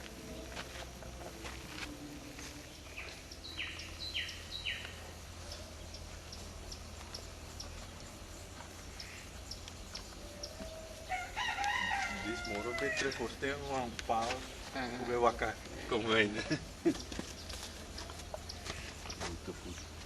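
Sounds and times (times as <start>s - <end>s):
bird calling: 2.8s - 20.0s.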